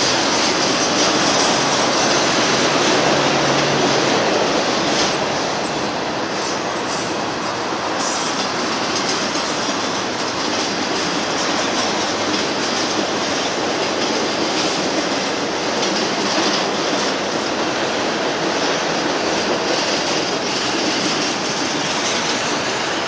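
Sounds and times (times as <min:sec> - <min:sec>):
steel wheels rolling on rail: 0:00.0 - 0:23.0.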